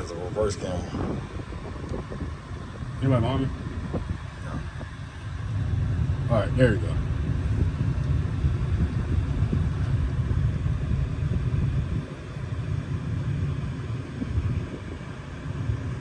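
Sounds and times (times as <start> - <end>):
road and tyre rumble in cabin: 0.0 - 16.0.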